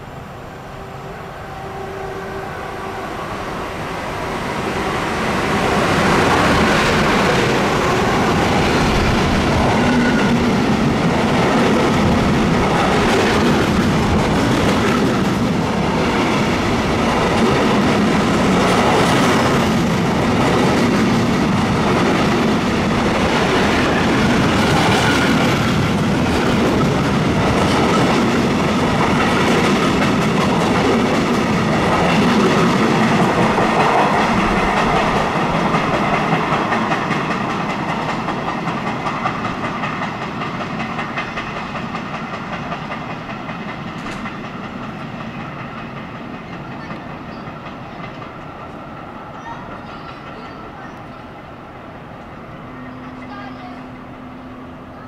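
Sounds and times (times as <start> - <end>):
freight train wheels clattering: 4.8 - 51.0.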